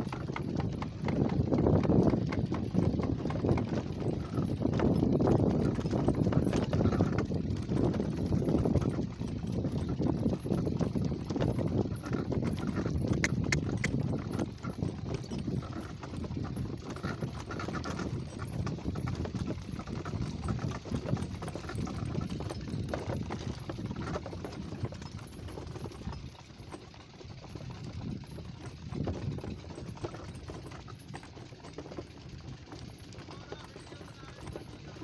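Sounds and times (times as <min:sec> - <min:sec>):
cart rattling: 0:00.0 - 0:35.0
hooves clip-clopping on dirt: 0:00.0 - 0:35.0.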